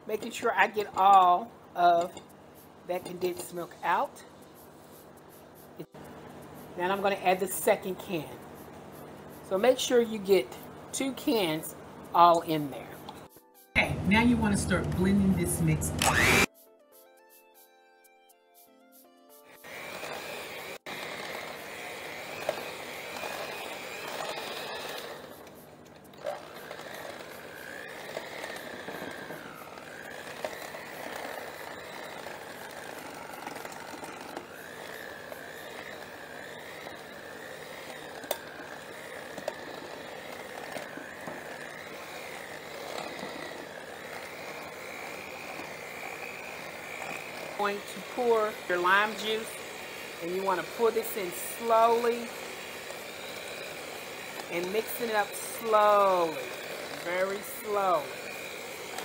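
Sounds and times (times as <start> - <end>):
electric hand mixer whine: 0.0 - 16.5, 19.5 - 59.0.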